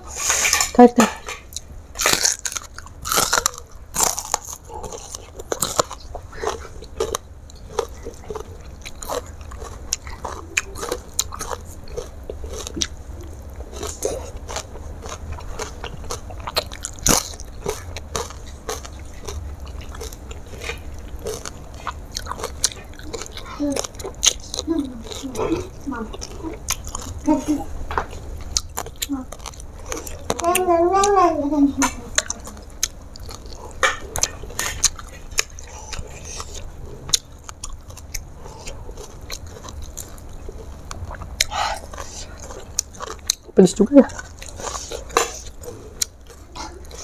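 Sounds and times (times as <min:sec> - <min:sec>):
person chewing crunchy food: 0:00.0 - 0:31.2, 0:31.8 - 0:47.0.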